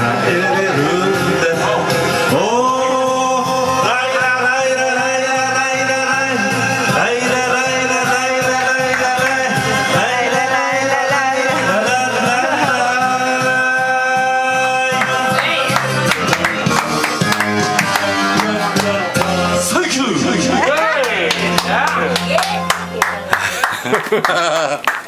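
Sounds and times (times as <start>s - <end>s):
man singing into a microphone: 0.0s - 20.6s
karaoke backing track: 0.0s - 25.0s.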